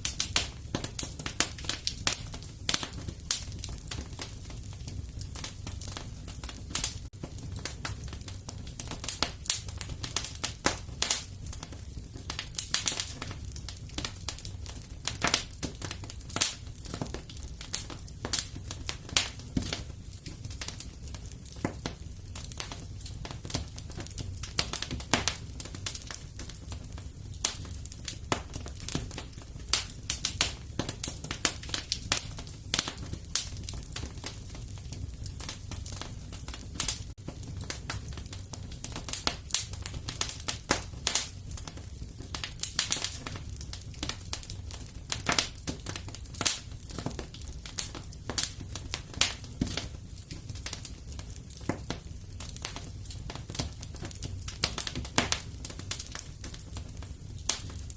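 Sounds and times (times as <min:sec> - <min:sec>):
low rumble of burning: 0:00.0 - 0:57.9
wood fire crackling and popping: 0:00.0 - 0:57.9.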